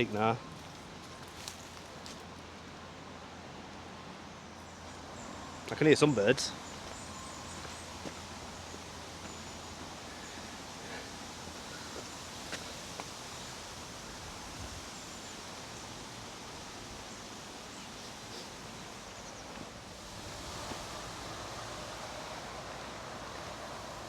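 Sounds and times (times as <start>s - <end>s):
rustling hiss: 0.0s - 24.0s.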